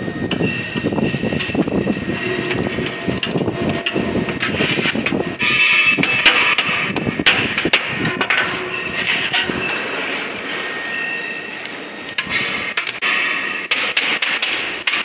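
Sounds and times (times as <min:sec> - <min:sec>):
workshop noise: 0:00.0 - 0:15.0.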